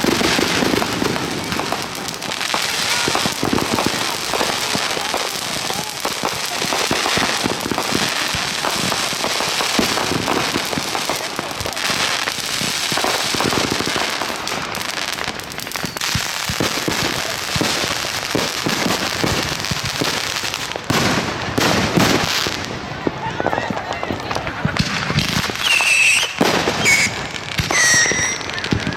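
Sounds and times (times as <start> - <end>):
fireworks crackling and banging: 0.0 - 28.9.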